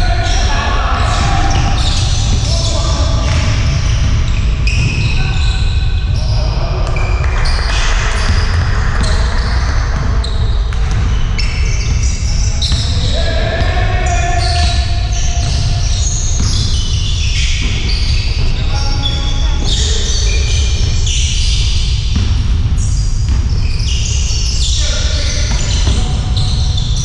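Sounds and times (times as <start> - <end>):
players calling out: 0.0 - 21.7
sneakers squeaking: 0.0 - 27.0
basketball bouncing: 0.2 - 27.0.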